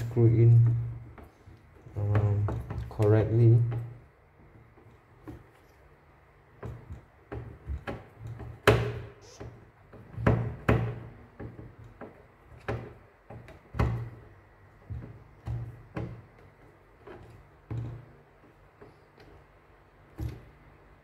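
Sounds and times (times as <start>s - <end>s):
knocks against hollow plastic: 0.4s - 5.6s, 6.4s - 19.4s.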